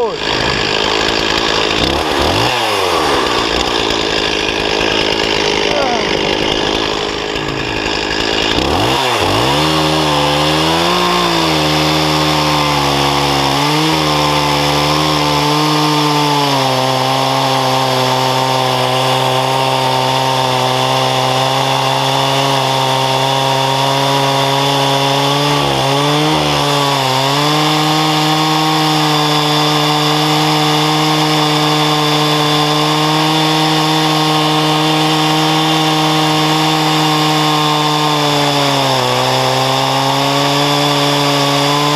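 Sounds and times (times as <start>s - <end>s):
chainsaw cutting a log: 0.0s - 41.9s.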